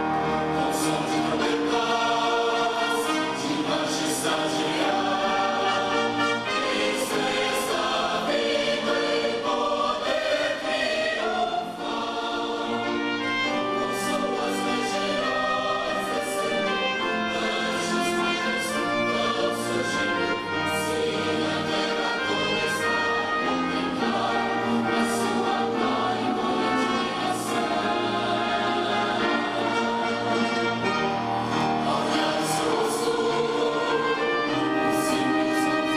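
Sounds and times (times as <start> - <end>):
choir singing: 0.0 - 35.9
orchestral strings: 0.0 - 35.9.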